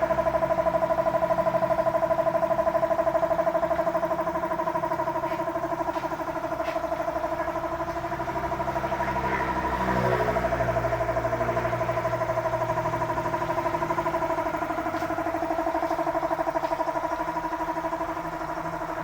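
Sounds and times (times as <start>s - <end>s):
motor pulsing hum: 0.0s - 19.0s.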